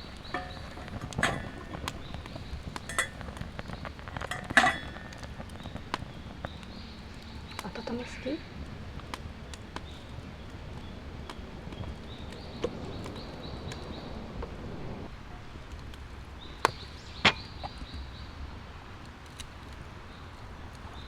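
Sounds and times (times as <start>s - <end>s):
campfire crackling: 0.0s - 21.0s
sharp fire snaps: 0.0s - 21.0s.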